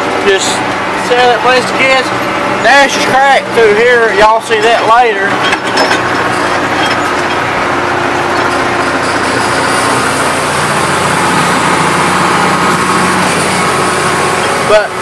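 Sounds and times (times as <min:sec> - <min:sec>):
tractor engine running: 0:00.0 - 0:15.0
turbo whine: 0:00.0 - 0:15.0.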